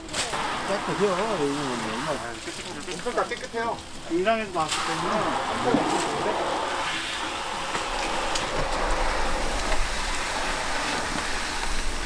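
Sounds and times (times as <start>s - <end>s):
water pattering and trickling: 0.0s - 12.0s
small water drips: 0.1s - 12.0s.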